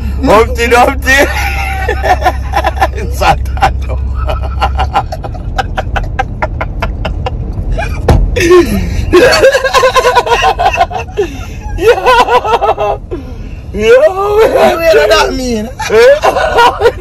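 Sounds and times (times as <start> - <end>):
car road rumble: 0.0 - 17.0
man and woman laughing: 1.1 - 13.1, 14.1 - 17.0.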